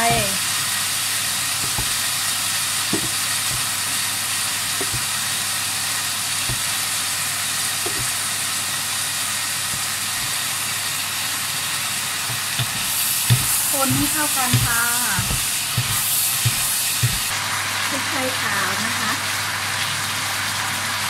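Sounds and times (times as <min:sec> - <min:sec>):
stir-fry sizzling in pan: 0:00.0 - 0:21.0.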